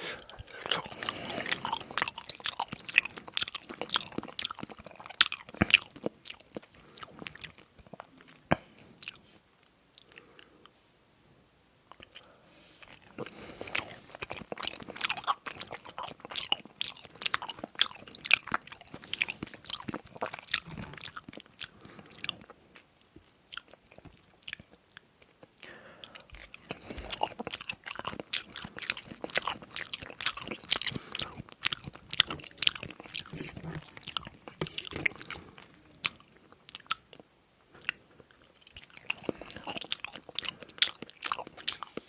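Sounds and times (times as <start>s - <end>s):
chewing food: 0.2s - 10.7s, 11.9s - 42.0s.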